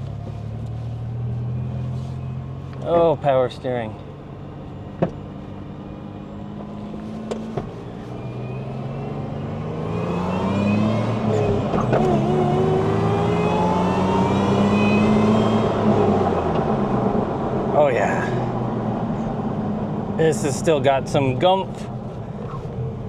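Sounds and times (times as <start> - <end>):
high supercharger whine: 0.0 - 23.0
car engine revving: 4.2 - 23.0.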